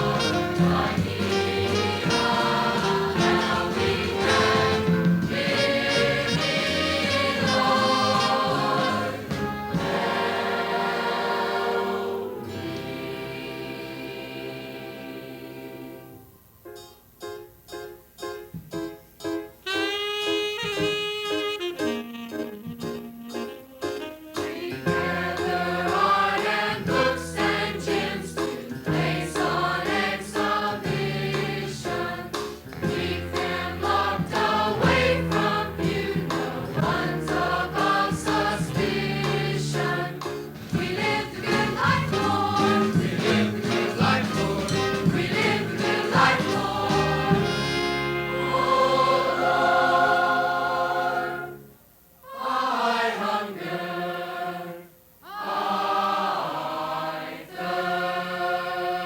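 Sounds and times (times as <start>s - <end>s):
choir singing with band: 0.0s - 16.3s, 24.4s - 59.0s.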